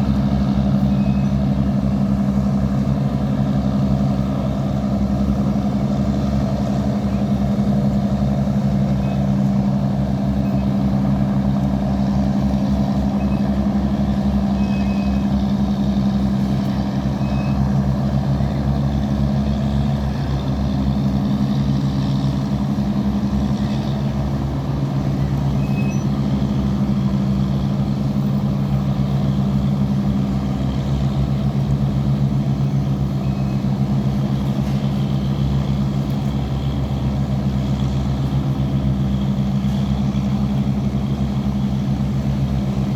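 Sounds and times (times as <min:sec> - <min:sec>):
boat diesel engine running: 0:00.0 - 0:42.9.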